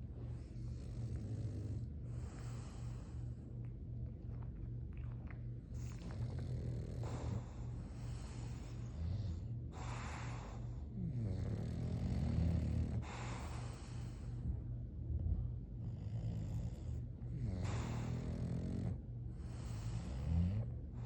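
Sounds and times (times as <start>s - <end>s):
dog snoring rattling drone: 0.0s - 3.4s, 5.2s - 21.0s.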